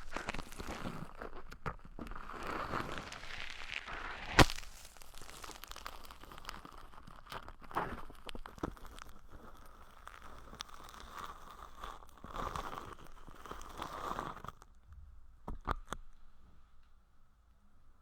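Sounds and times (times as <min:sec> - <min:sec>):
scratching against microphone: 0:00.0 - 0:14.7
crinkling: 0:00.0 - 0:17.0.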